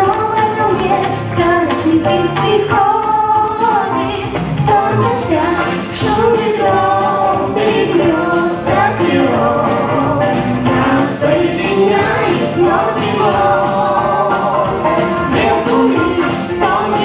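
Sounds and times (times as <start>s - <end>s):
song with singing over music: 0.0s - 17.0s.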